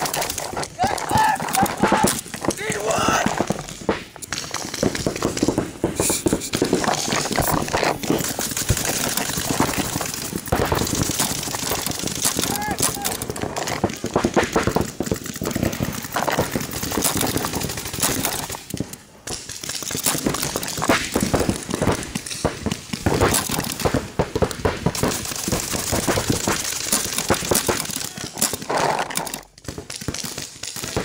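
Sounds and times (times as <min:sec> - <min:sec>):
paintball markers firing: 0:00.0 - 0:31.0
paintballs smacking inflatable bunker: 0:00.0 - 0:31.0.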